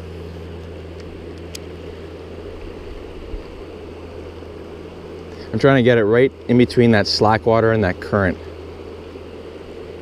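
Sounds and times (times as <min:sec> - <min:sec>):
constant low hum: 0:00.0 - 0:10.0.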